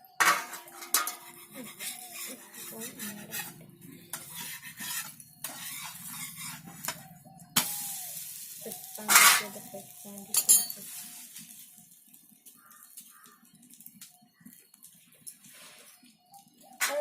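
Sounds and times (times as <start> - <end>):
metal utensils clinking on pots: 0.0 - 14.1, 16.6 - 17.0.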